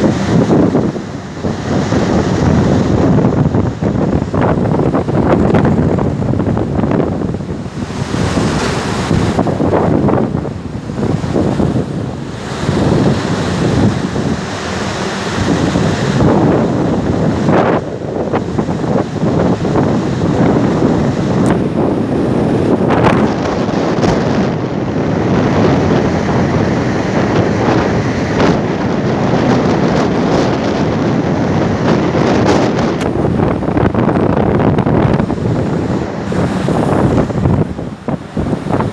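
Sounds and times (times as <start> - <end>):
rough sea water rushing: 0.0 - 38.9
wind buffeting microphone: 0.0 - 38.9.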